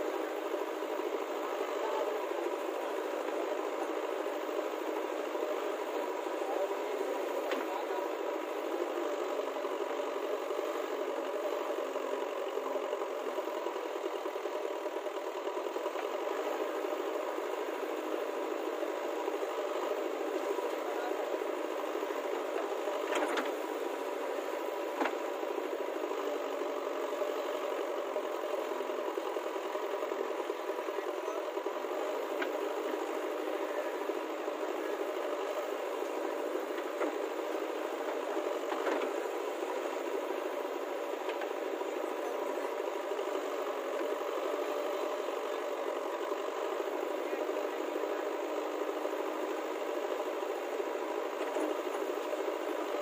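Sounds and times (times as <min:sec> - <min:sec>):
diesel engine running under load: 0:00.0 - 0:53.0.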